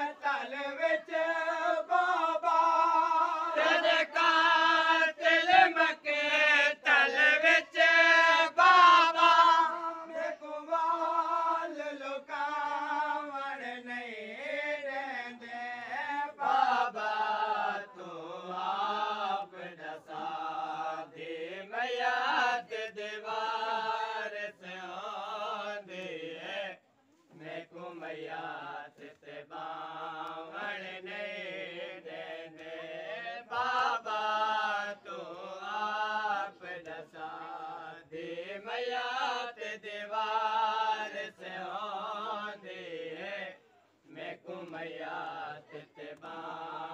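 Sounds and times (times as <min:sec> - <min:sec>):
male voices chanting a lament: 0:00.0 - 0:46.9.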